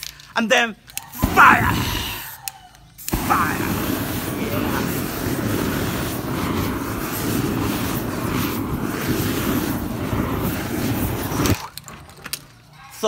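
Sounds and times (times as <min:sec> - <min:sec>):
flame torch rushing: 0:01.0 - 0:12.0.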